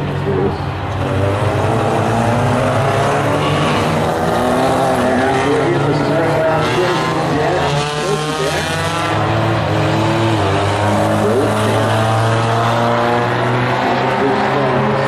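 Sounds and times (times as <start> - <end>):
race car engines at speed: 0.0 - 15.0.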